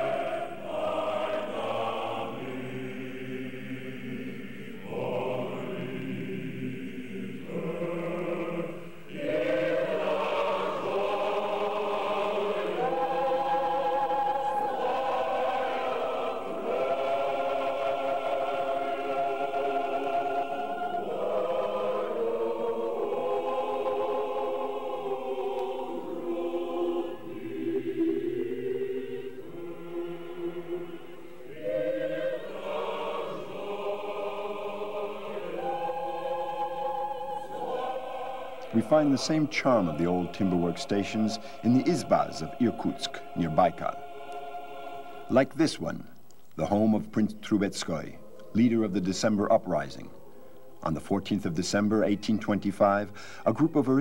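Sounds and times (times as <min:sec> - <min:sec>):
choir singing held chords: 0:00.0 - 0:54.0.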